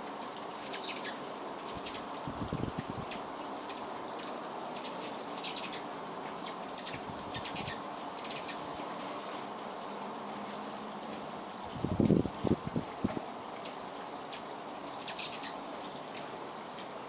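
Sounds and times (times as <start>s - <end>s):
high-pitched insect trill: 0.0s - 16.6s
hummingbirds chirping: 0.0s - 17.0s.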